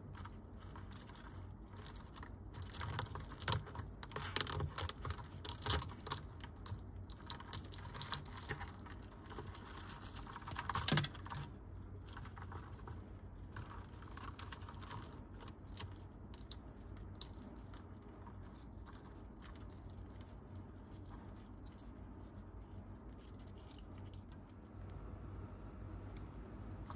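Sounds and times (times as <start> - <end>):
beetle claws clicking and scratching: 0.0 - 24.6.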